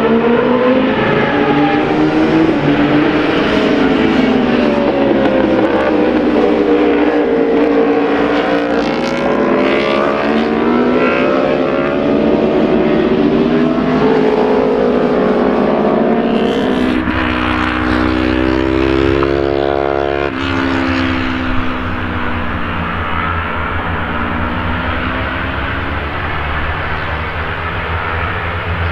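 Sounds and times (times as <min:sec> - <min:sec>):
racing motorcycle engines: 0:00.0 - 0:28.9.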